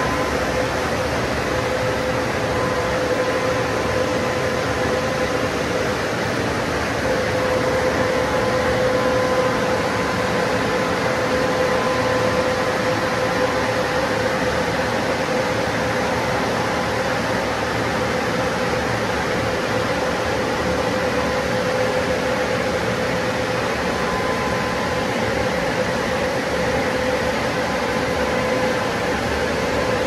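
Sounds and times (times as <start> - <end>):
car wash machine rushing and humming: 0.0 - 30.0.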